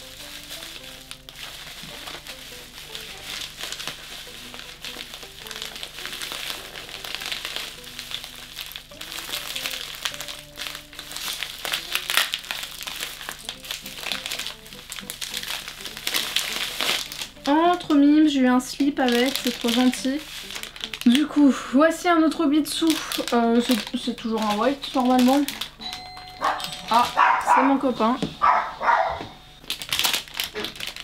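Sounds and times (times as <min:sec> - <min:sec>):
bubble wrap crinkling: 0:00.0 - 0:31.0
light background music: 0:00.0 - 0:31.0.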